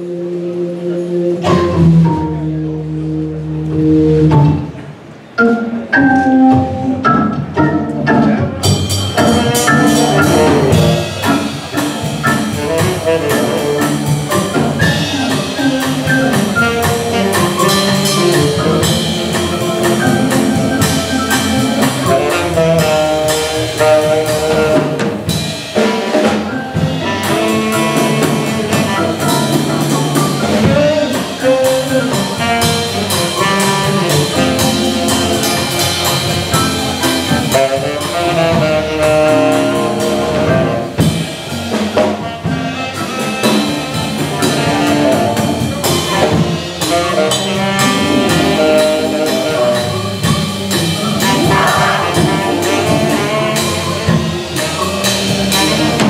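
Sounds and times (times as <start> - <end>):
drums and cymbals: 0.0 - 56.0
jazz trio playing: 0.0 - 56.0
organ chords: 0.0 - 56.0.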